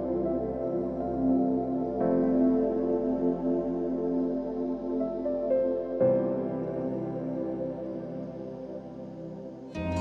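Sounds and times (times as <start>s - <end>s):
soft sustained keyboard chords: 0.0s - 10.0s.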